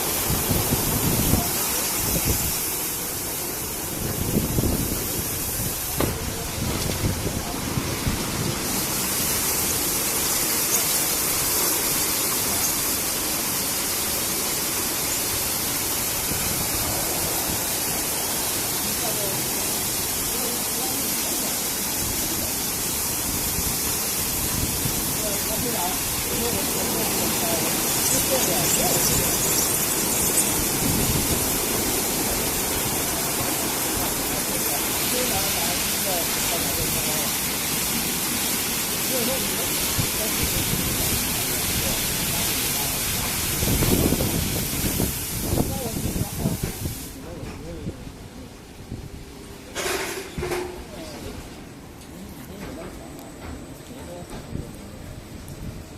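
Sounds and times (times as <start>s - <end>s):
car wash spraying water: 0.0s - 47.2s.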